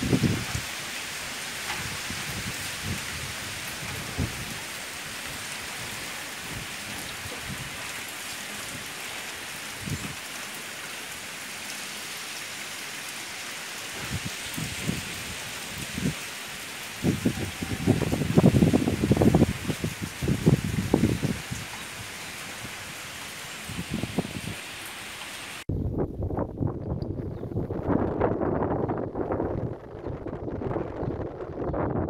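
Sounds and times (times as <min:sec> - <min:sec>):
heavy wind-driven rain: 0:00.0 - 0:32.0.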